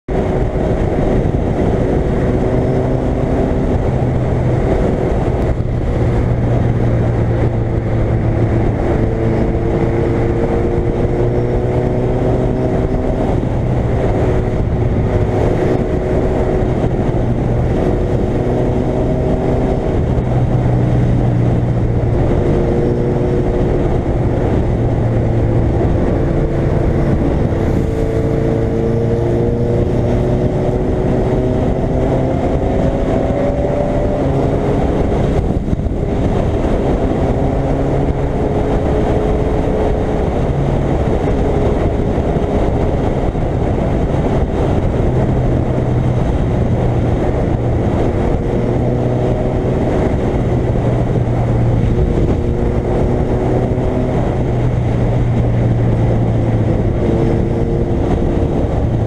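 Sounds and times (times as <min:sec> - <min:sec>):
motorcycle engine at speed: 0:00.0 - 0:59.0
wind noise rushing: 0:00.1 - 0:59.0.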